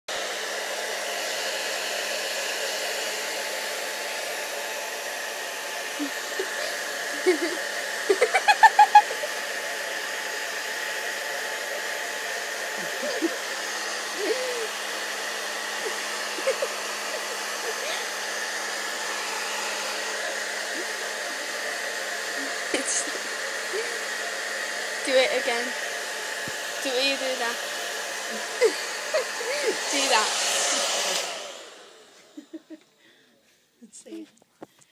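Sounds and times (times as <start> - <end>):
hair dryer blowing: 0.1 - 33.2.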